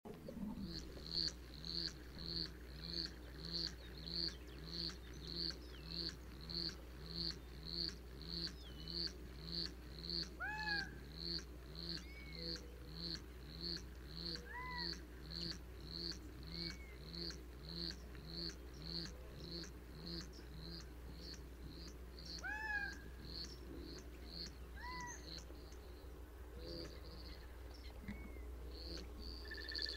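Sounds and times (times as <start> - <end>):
lower arching bird calls: 0.2 - 29.9.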